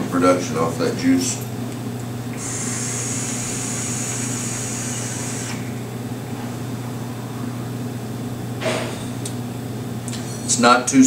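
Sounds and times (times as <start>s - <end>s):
low steady hum: 0.0s - 10.5s.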